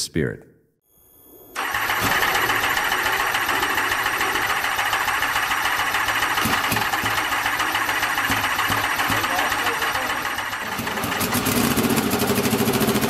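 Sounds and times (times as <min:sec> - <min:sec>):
engine idling: 0:01.6 - 0:13.0.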